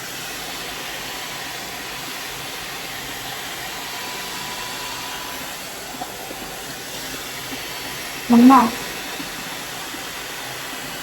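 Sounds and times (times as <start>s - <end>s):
hair dryer fan hiss: 0.0s - 9.5s.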